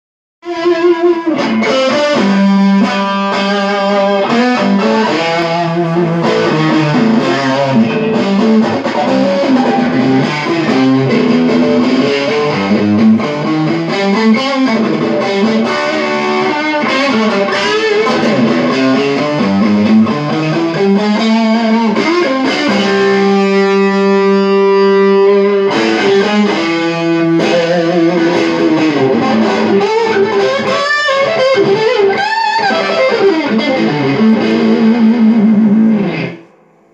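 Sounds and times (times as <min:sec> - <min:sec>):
electric guitar lead line: 0:00.4 - 0:36.9.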